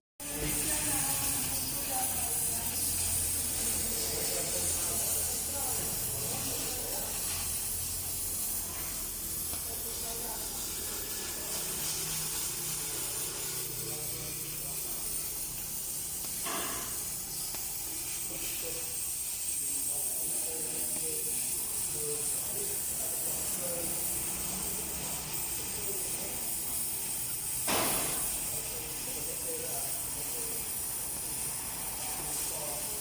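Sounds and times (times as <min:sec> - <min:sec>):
faint background voices: 0:00.2 - 0:33.0
high-pitched hiss: 0:00.2 - 0:33.0.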